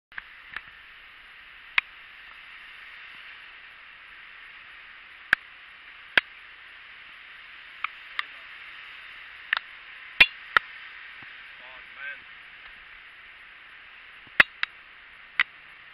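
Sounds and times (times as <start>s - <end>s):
wet street traffic hiss: 0.1s - 15.9s.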